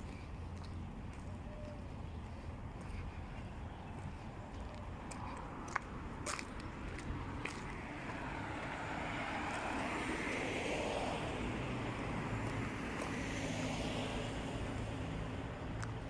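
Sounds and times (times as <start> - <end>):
rushing vehicle noise: 0.0 - 16.0.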